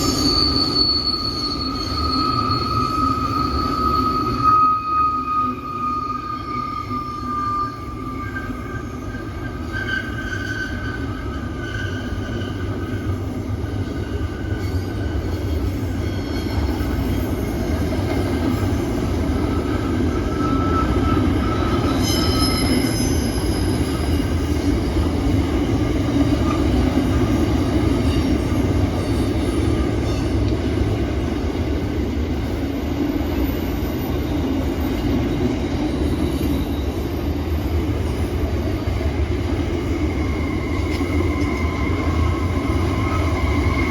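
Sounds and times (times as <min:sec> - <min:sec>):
train rumbling on rails: 0:00.0 - 0:43.9
train wheels squealing: 0:00.0 - 0:43.9.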